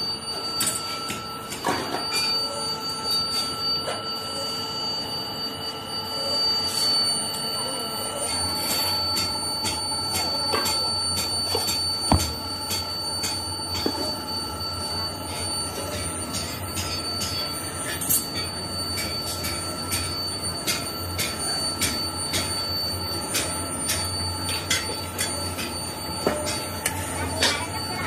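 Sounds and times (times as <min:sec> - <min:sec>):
machinery humming and whining: 0:00.0 - 0:28.0.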